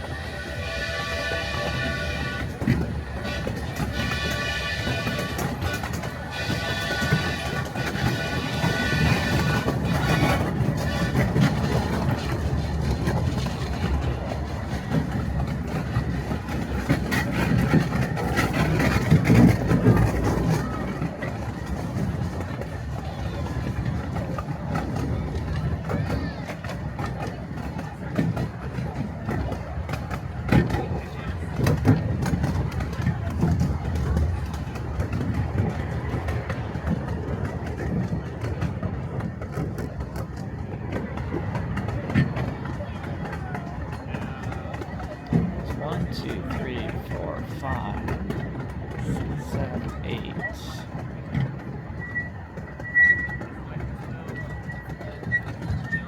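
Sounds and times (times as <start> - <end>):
miniature train rumbling: 0.0 - 56.0
wheels clicking over rail joints: 0.0 - 56.0.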